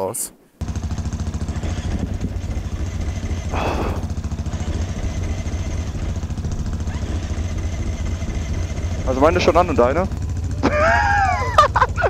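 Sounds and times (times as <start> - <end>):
motorcycle engine idling: 0.6 - 12.0.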